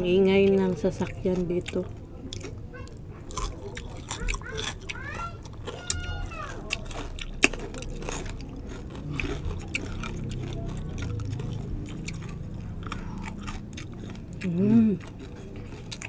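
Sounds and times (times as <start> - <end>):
chewing crispy pork skin: 0.0 - 16.0
low background rumble: 0.0 - 16.0.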